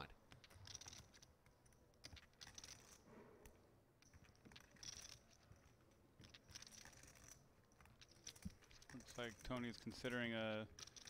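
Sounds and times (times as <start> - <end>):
clay poker chips clicking: 0.2 - 3.0, 4.0 - 11.0.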